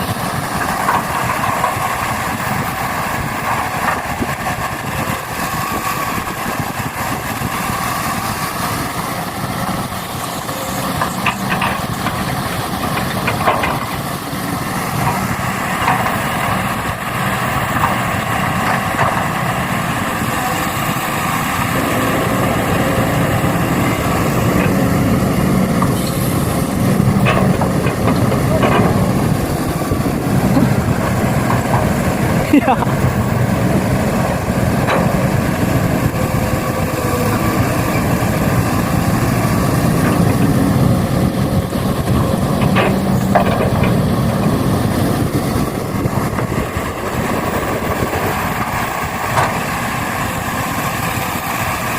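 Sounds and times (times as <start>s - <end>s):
heavy engine idling: 0.0s - 51.9s.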